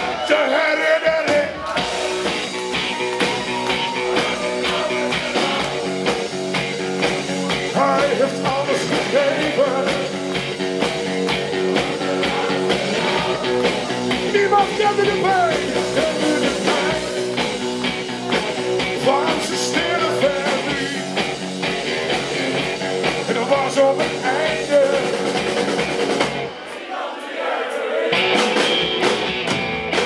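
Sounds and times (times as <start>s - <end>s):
live rock band playing: 0.0s - 26.6s, 28.1s - 30.0s.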